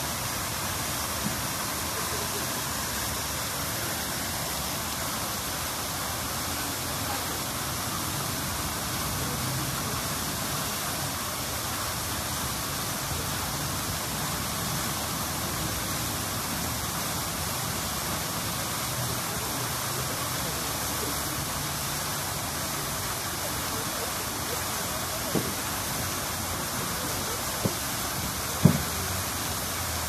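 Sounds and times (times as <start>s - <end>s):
fountains splashing: 0.0s - 30.0s.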